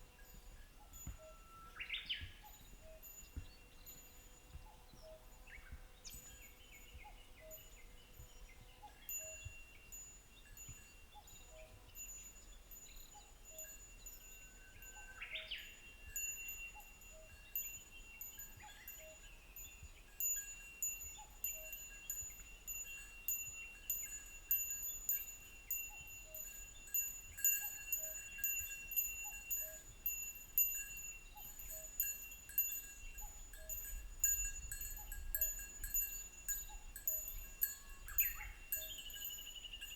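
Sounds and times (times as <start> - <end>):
small metal bell ringing: 5.3 - 39.9.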